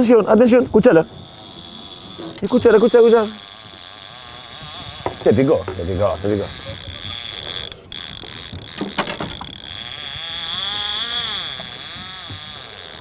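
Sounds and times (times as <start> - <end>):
fishing reel whirring: 0.0 - 13.0
sharp reel clicks: 0.7 - 13.0.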